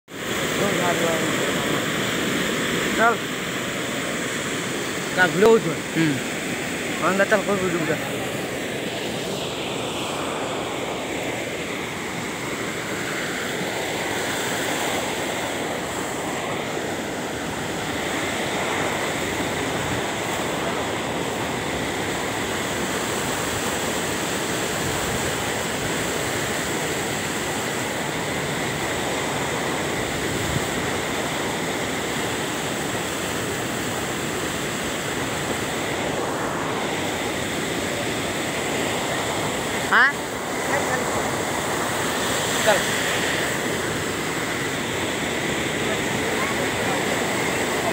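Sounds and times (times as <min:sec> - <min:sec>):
floodwater rushing over weir: 0:00.1 - 0:47.9.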